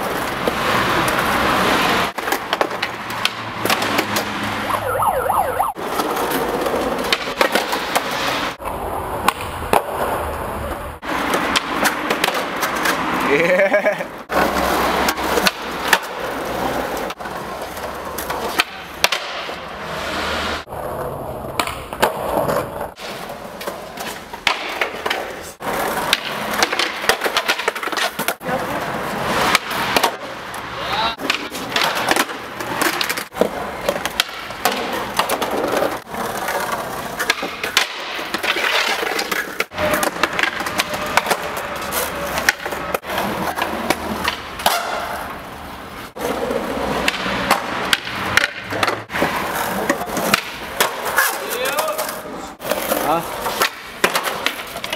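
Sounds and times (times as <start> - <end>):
skateboards popping and landing: 0.0 - 4.6, 5.7 - 54.9
skateboard wheels rolling: 0.0 - 54.9.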